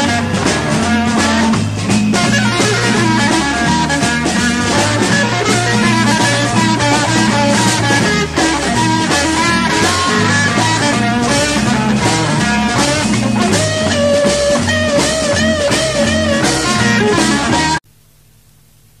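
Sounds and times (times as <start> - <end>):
bass guitar: 0.0 - 17.8
drum kit: 0.0 - 17.8
electric guitar lead: 0.0 - 17.8.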